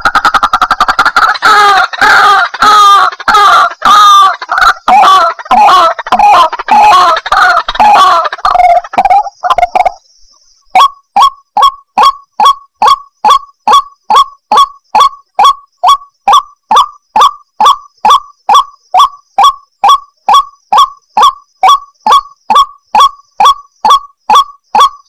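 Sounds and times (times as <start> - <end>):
waterhen calling: 0.0 - 10.1, 10.8 - 25.0.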